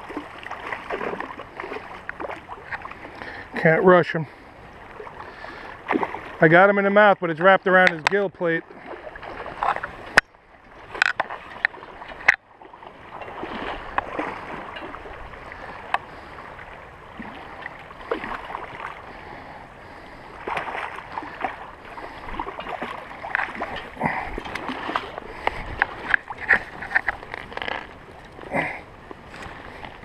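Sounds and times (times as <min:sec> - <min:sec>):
stream water splashing: 0:00.0 - 0:30.0.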